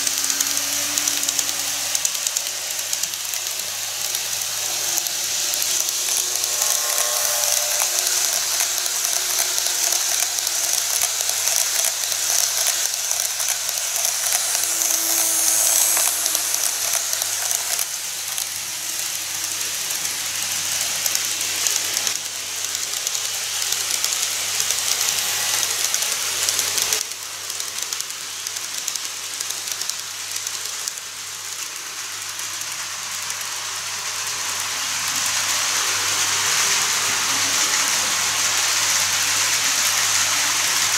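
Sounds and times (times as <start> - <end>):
model trains running on track: 0.0 - 40.9
wheels clicking over rail joints: 0.0 - 40.9.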